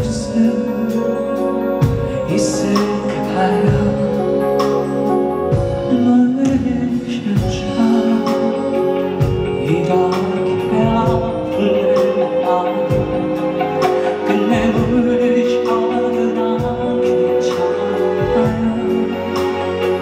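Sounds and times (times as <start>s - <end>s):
live band playing slow ballad: 0.0s - 20.0s.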